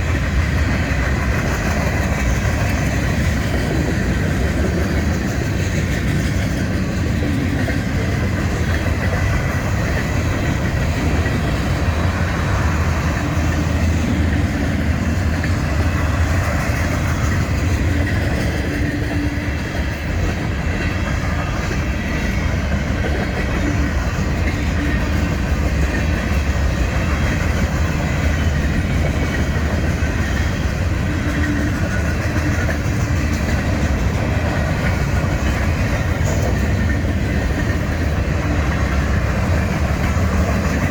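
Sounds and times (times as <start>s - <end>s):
freight train rumbling on rails: 0.0s - 40.9s.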